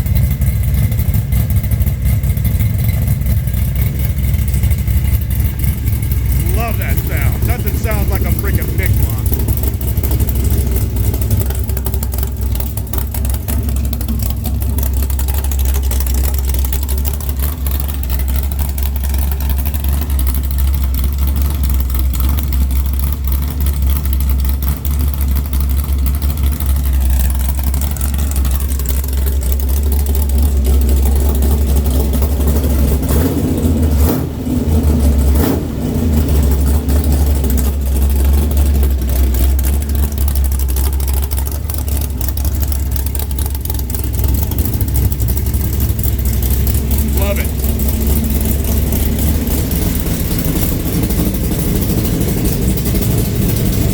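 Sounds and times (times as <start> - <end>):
engine idling with deep rumble: 0.0 - 53.9.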